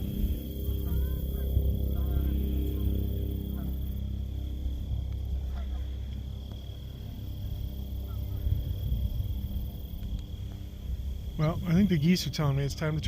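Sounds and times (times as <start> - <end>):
distant geese honking: 0.0 - 13.0
insect trill: 0.0 - 13.0
wind rumble on microphone: 0.0 - 13.0.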